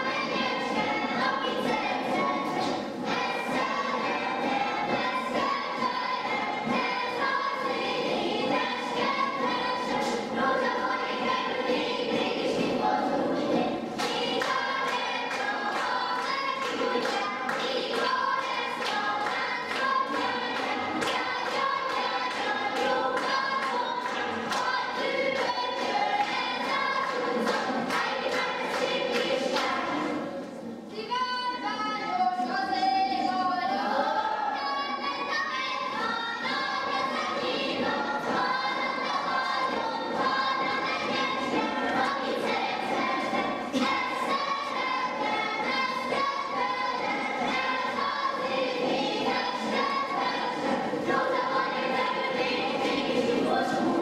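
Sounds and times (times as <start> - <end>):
children singing folk song: 0.0 - 54.0.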